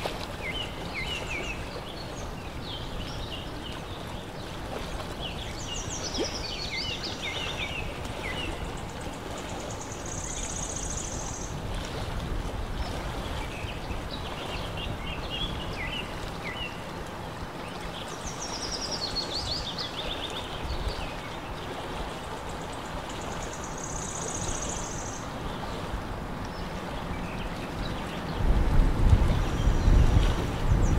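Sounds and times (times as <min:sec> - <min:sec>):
rippling lake water: 0:00.0 - 0:30.9
songbird singing: 0:00.1 - 0:12.0, 0:12.9 - 0:17.0, 0:17.6 - 0:28.5.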